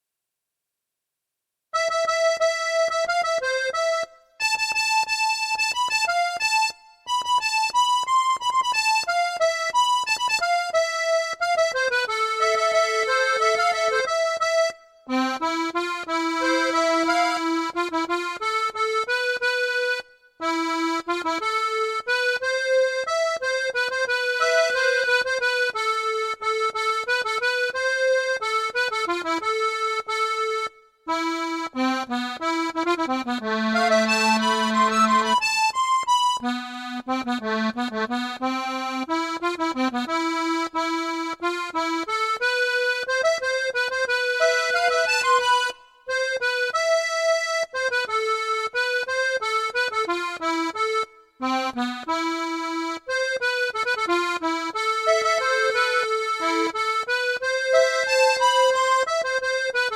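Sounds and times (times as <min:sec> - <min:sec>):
accordion melody: 0:01.8 - 0:59.9.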